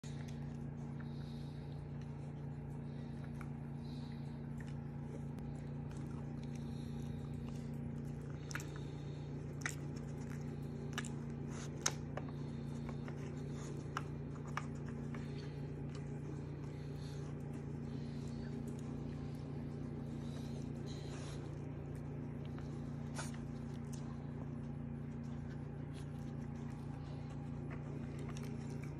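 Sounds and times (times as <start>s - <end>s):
low hum: 0.0s - 28.9s.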